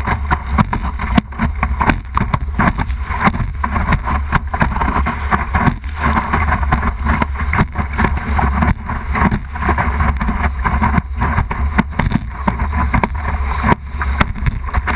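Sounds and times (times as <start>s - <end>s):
water splashing against board hull: 0.0s - 14.9s
wind buffeting microphone: 0.0s - 14.9s.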